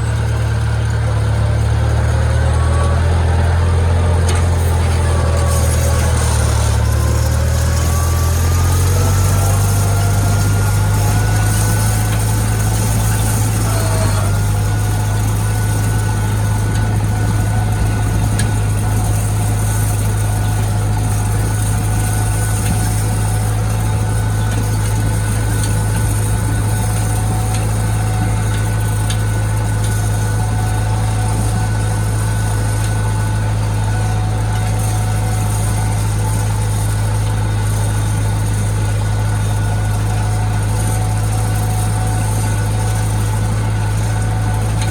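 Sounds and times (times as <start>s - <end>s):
high engine whine: 0.0s - 44.9s
tractor engine droning: 0.0s - 44.9s.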